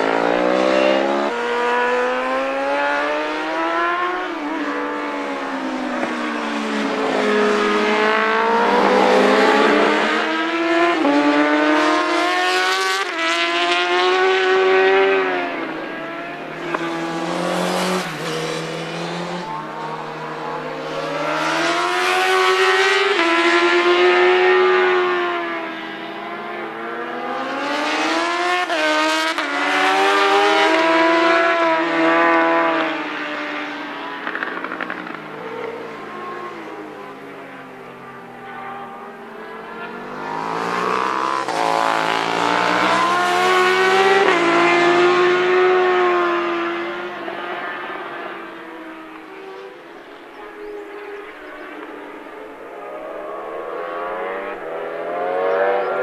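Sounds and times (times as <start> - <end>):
racing motorcycles passing at high revs: 0.0 - 56.0.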